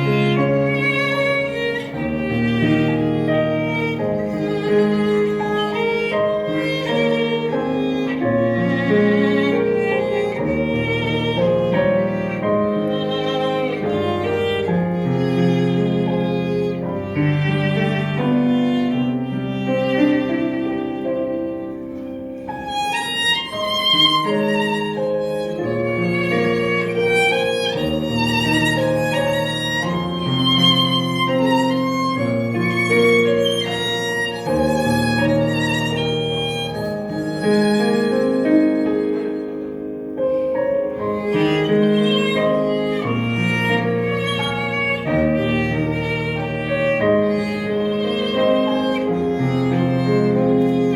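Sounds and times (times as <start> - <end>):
string ensemble playing slow melody: 0.0 - 50.9.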